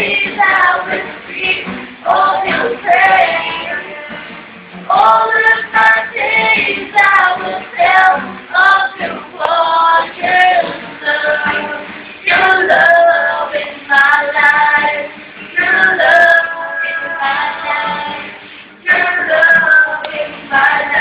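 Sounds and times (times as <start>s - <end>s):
guitar: 0.0s - 21.0s
woman singing: 0.0s - 21.0s.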